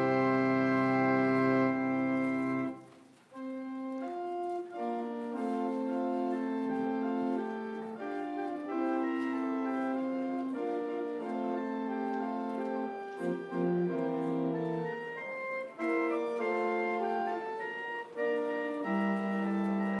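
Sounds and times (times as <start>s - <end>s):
organ playing held chords: 0.0s - 20.0s.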